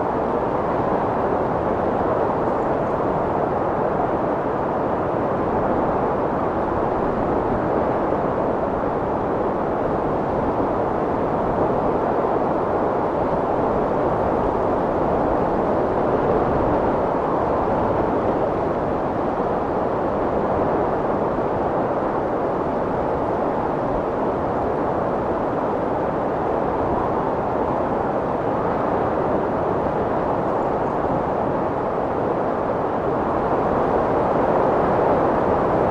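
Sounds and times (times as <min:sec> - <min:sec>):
strong wind blowing: 0:00.0 - 0:35.9.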